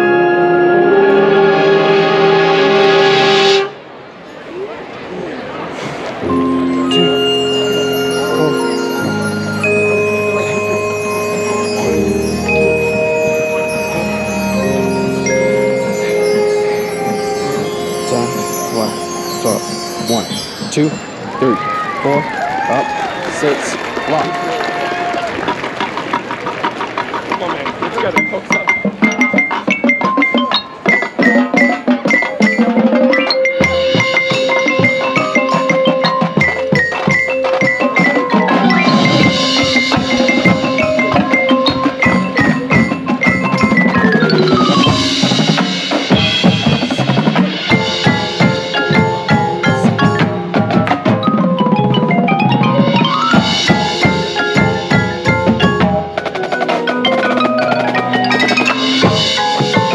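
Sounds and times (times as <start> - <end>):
marching band playing: 0.0 - 4.0, 6.0 - 59.9
drums: 5.7 - 59.9
mallet percussion rapid runs: 6.2 - 59.9.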